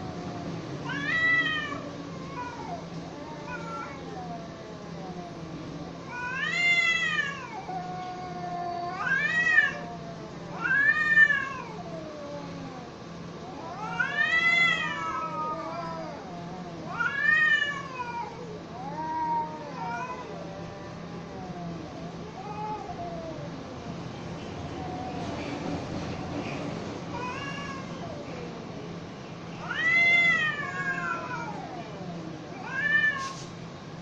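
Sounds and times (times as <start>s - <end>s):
cats yowling: 0.0s - 23.8s, 27.1s - 33.5s
cats moaning: 0.0s - 34.0s.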